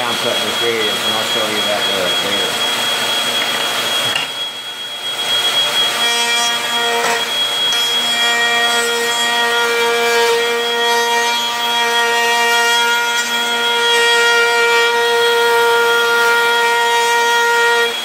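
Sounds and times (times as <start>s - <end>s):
router cutting wood: 0.0s - 18.0s.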